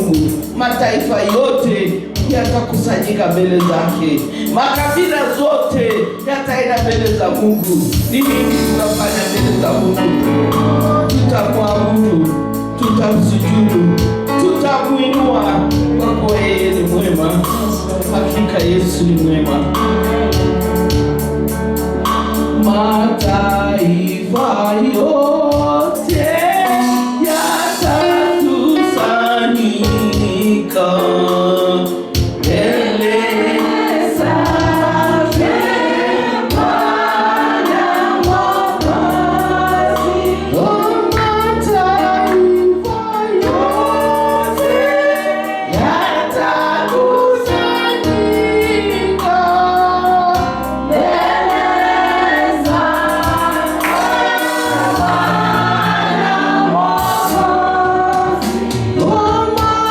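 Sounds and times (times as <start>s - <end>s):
band with bass and beat: 0.0s - 59.9s
choir and congregation singing: 7.4s - 14.1s, 15.5s - 59.9s.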